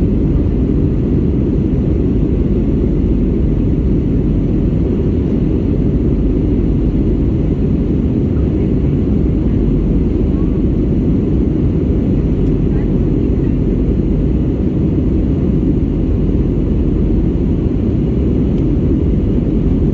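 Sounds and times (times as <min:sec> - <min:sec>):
airliner cabin engine roar: 0:00.0 - 0:19.9.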